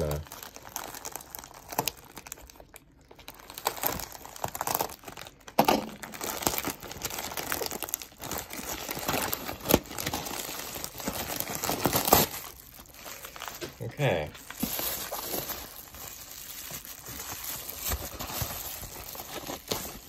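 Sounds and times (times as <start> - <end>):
plastic bag crinkling and tearing: 0.0 - 20.0.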